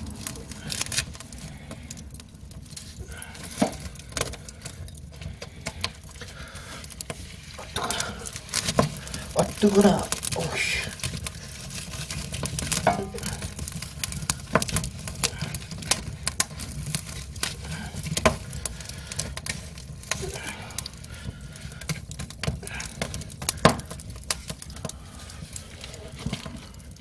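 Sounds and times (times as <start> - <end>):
firewood crackling and popping: 0.0 - 27.0.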